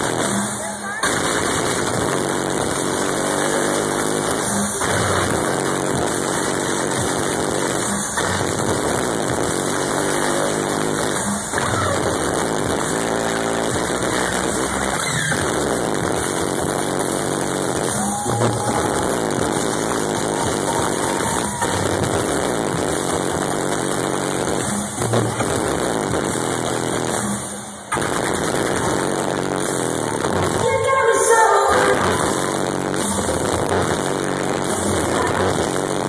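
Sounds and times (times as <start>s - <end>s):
bass-heavy electronic dance music: 0.0s - 36.0s.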